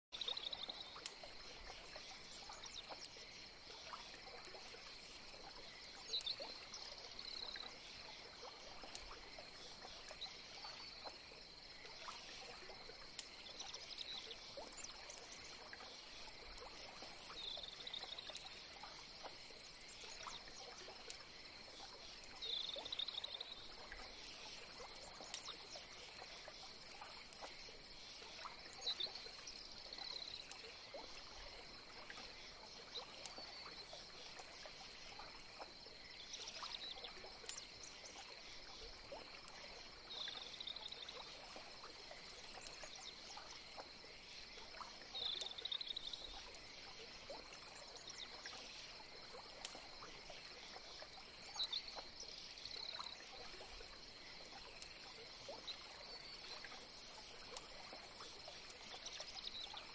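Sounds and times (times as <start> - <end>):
soft ticks and clicks: 0.2 - 11.2, 11.8 - 59.9
faint insect chirring: 0.2 - 59.9.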